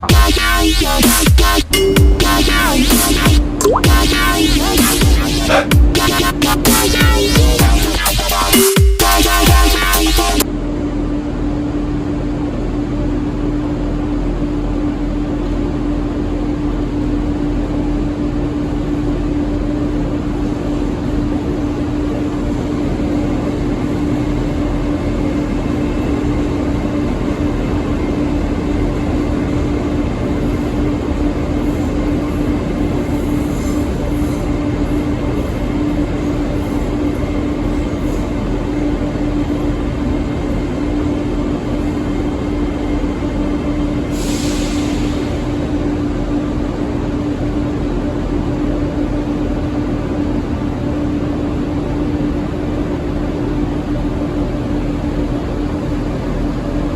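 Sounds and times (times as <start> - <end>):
train engine humming: 0.0 - 56.9.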